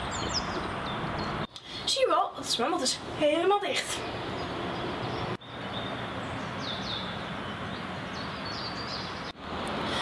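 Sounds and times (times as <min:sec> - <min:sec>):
outdoor background noise: 0:00.0 - 0:10.0
small birds chirping: 0:00.0 - 0:10.0.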